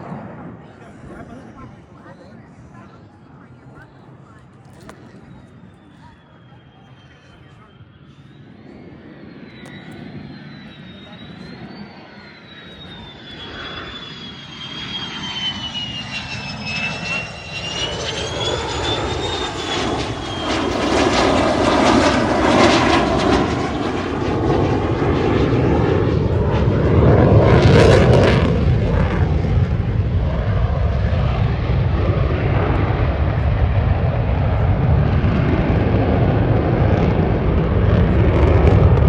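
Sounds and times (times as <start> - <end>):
fighter jet engine roar: 0.0 - 39.0.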